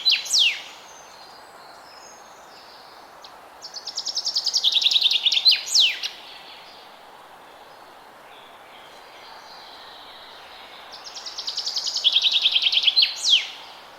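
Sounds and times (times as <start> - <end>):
background hiss: 0.0 - 13.9.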